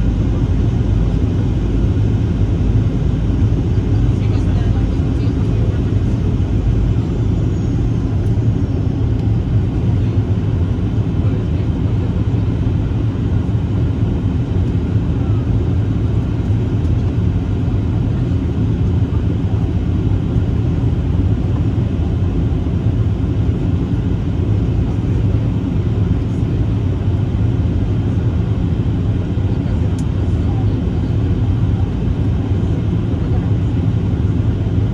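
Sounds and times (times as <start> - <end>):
airliner low rumble: 0.0 - 34.9.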